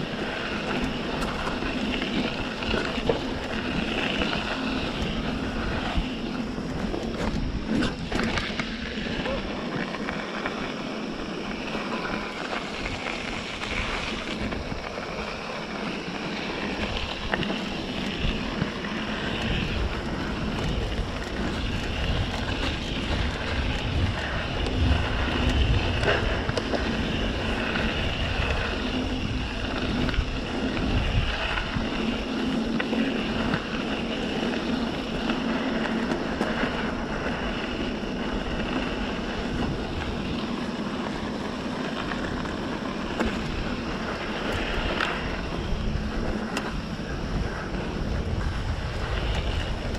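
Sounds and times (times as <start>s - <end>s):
mountain bike rolling on dirt: 0.0s - 49.9s
wind buffeting microphone: 0.0s - 49.9s.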